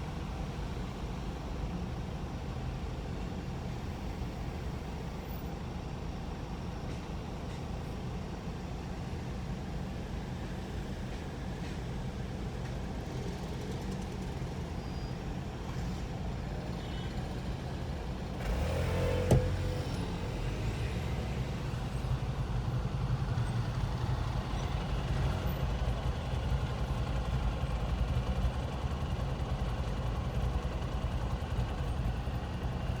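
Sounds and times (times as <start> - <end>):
city road traffic rumble: 0.0 - 33.0.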